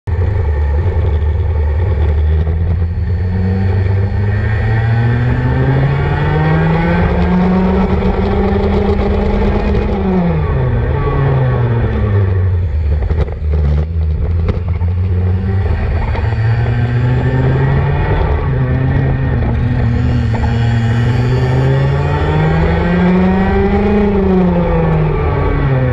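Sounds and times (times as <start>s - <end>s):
racing kart engines: 0.1s - 25.9s.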